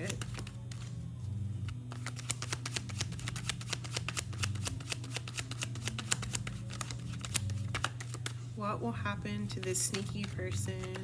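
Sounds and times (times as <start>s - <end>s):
cards being shuffled: 0.0s - 1.0s, 1.6s - 8.5s, 9.6s - 11.0s.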